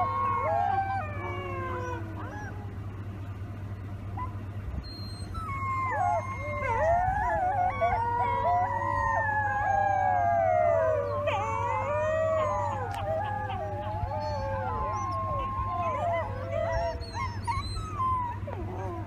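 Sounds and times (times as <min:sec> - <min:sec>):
steady low hum: 0:00.0 - 0:19.0
wolf pups howling: 0:00.0 - 0:19.0.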